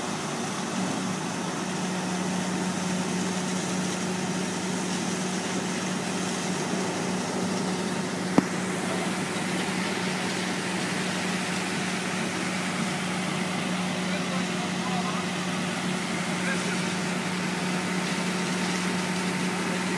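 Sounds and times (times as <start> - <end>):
engine droning: 0.0 - 19.9
water rushing from fire hoses: 0.0 - 19.9.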